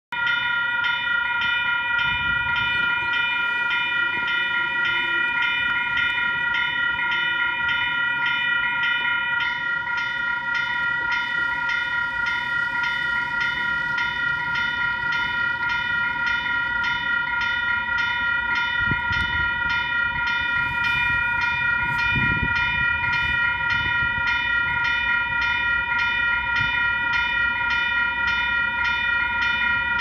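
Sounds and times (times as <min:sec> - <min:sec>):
level crossing warning bell: 0:00.1 - 0:30.0.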